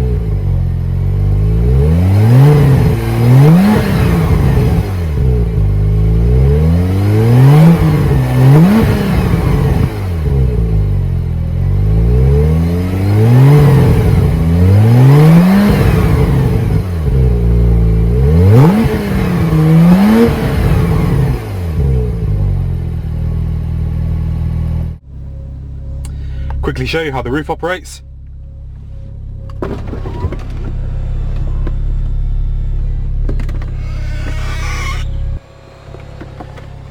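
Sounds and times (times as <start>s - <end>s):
car engine revving and idling: 0.0s - 36.9s.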